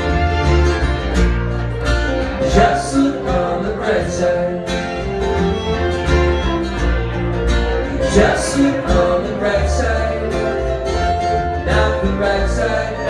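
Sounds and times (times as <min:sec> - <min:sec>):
bowed fiddle: 0:00.0 - 0:13.0
plucked upright bass: 0:00.0 - 0:13.0
strummed acoustic guitars: 0:00.0 - 0:13.0.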